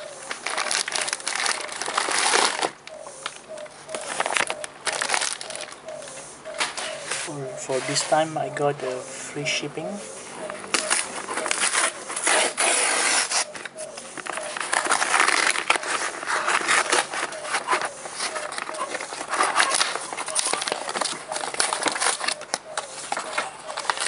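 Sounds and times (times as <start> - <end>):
paper package rustling and crinkling: 0.0 - 8.5, 10.4 - 24.0.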